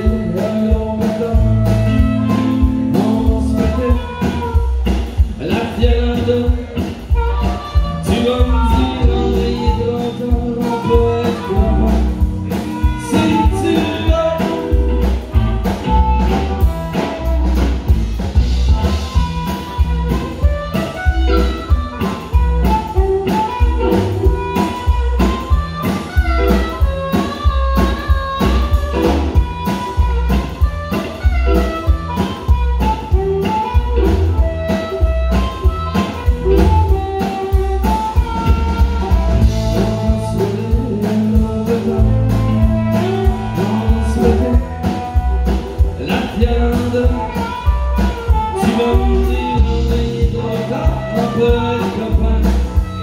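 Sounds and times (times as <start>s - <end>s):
amplified harmonica: 0.0s - 53.0s
drum kit beat: 0.0s - 53.0s
electric guitar: 0.0s - 53.0s.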